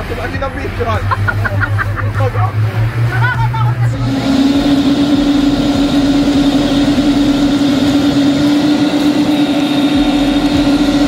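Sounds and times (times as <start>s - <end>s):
rush of wind and water: 0.0s - 11.0s
speedboat engine hum: 0.0s - 11.0s.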